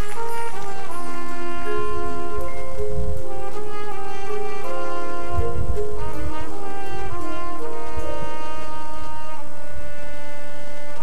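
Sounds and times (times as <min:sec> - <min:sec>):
marching band brass chords: 0:00.0 - 0:11.0.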